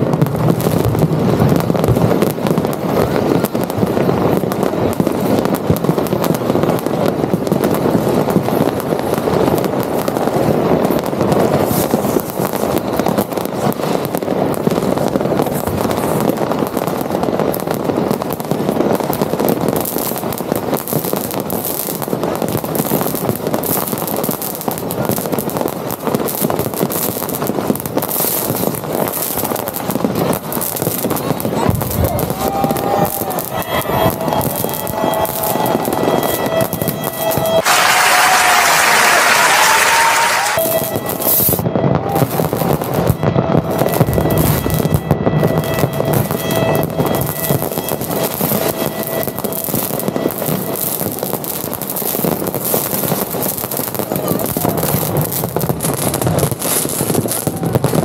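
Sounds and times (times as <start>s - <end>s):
fireworks banging and crackling: 0.0s - 58.0s
sharp firework cracks: 0.0s - 58.0s.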